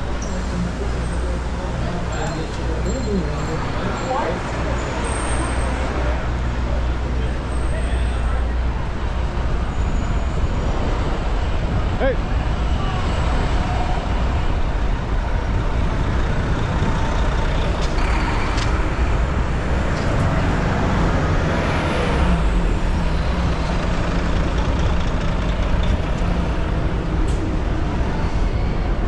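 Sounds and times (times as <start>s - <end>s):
city street traffic: 0.0s - 29.0s
large vehicle humming: 0.0s - 29.0s.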